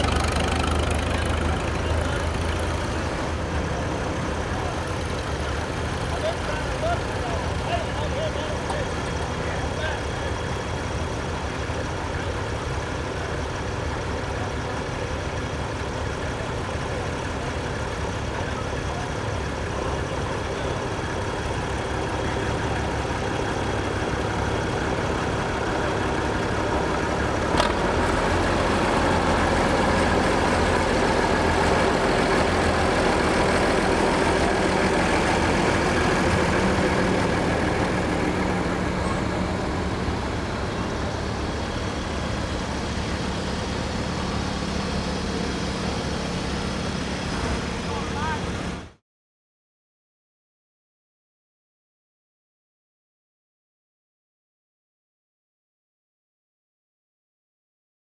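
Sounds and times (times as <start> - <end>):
tractor engines running: 0.0 - 49.0.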